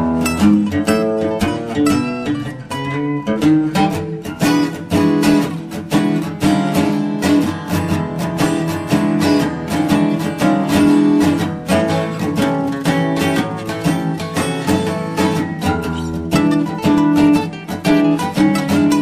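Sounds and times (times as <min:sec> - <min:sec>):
acoustic blues guitar: 0:00.0 - 0:19.0.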